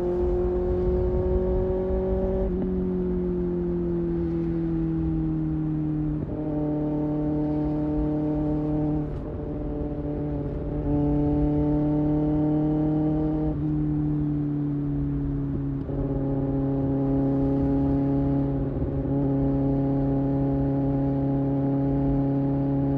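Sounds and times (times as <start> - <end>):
motorcycle engine at highway revs: 0.0 - 22.9.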